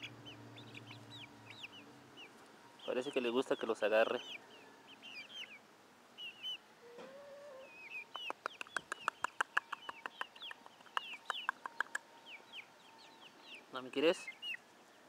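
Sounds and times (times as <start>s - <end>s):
chicks peeping: 0.0s - 14.9s.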